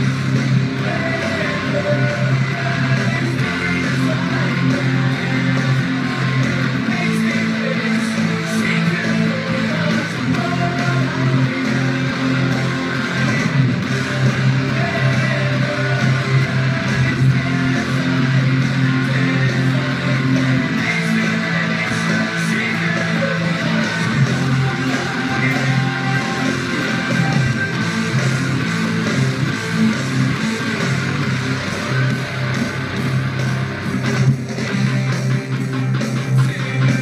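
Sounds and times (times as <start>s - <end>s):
distorted electric guitar strumming: 0.0s - 37.0s.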